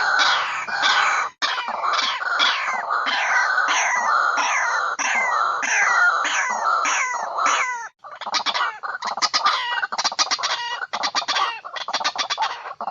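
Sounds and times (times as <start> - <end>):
birds calling: 0.0 - 12.9
rapid bird chattering: 0.0 - 12.9.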